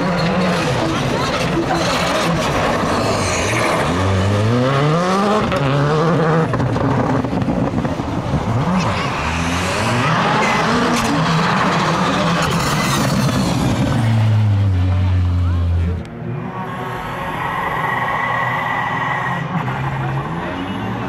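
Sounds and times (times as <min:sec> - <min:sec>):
rally car engine revving: 0:00.0 - 0:17.1.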